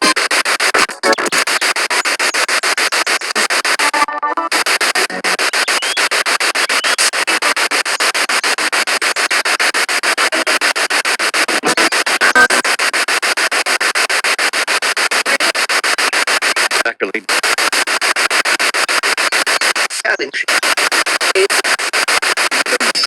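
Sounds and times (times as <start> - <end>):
pulsing radio static hiss: 0.0 - 23.0
radio sound fragments: 0.0 - 23.0.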